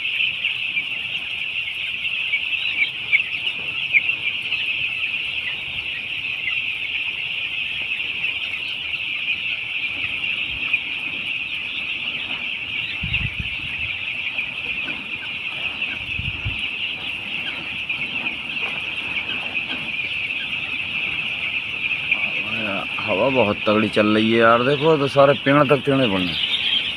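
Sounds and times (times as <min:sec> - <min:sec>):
chicks peeping: 0:00.0 - 0:26.9.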